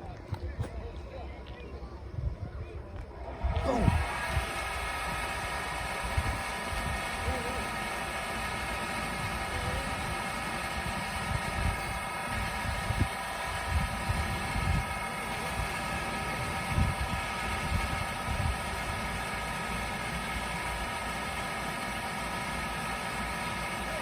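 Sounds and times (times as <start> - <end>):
mechanical drone: 3.2 - 24.0.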